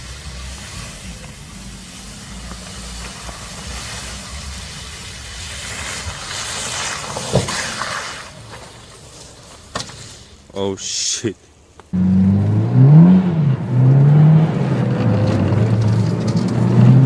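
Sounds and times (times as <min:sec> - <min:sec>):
car driving on snow: 0:00.0 - 0:10.7, 0:11.9 - 0:17.0.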